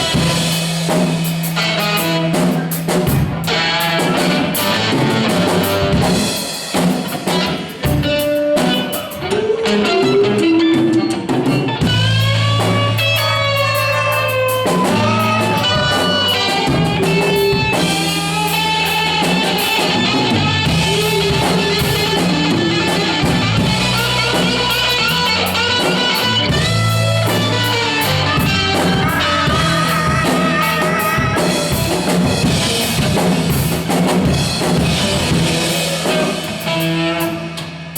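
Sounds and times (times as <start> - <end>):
rock band playing: 0.0 - 37.9
guitar notes bending: 7.1 - 37.9.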